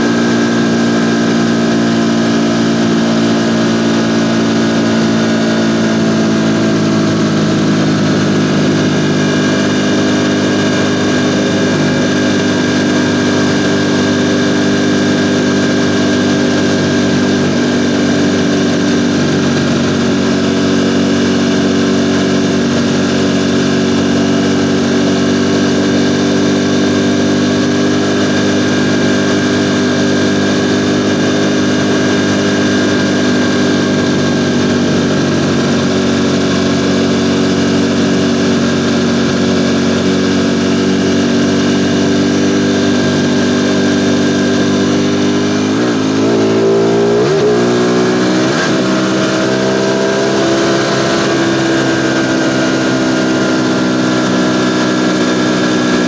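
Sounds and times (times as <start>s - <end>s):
motorcycle engine running loud: 0.0s - 56.0s.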